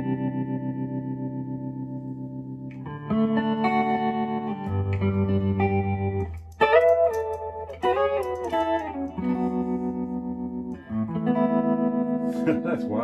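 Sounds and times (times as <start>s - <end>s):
electric guitar with tremolo: 0.0s - 13.0s.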